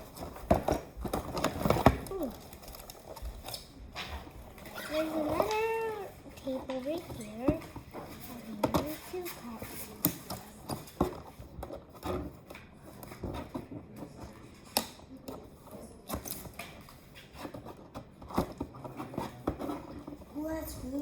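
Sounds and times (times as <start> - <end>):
box and packaging rustling: 0.0 - 21.0.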